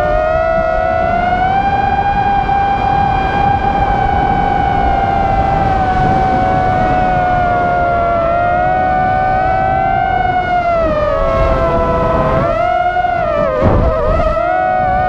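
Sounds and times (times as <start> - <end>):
drone propellers whining: 0.0 - 15.0
low wind rumble: 0.0 - 15.0.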